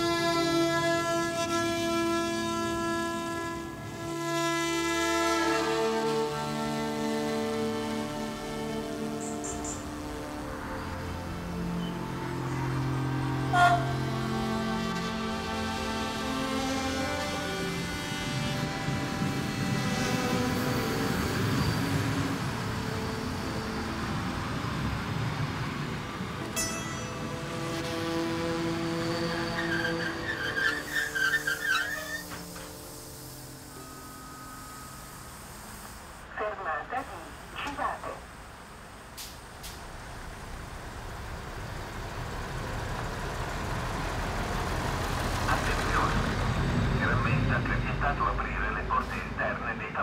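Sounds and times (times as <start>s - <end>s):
diesel train passing: 0.0s - 50.0s.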